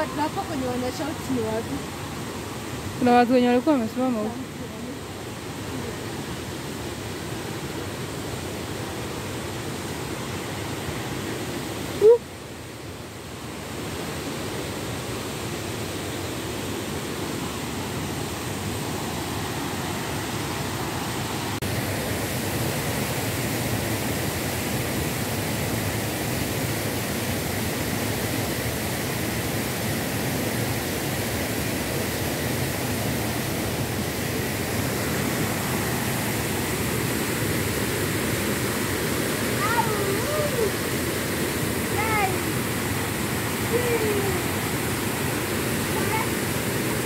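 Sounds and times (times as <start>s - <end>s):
water rushing over a weir: 0.0s - 47.0s.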